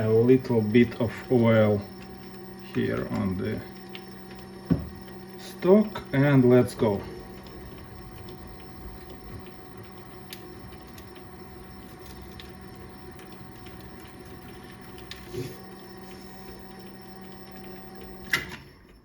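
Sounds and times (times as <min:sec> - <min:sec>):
lathe motor humming: 0:00.0 - 0:18.4.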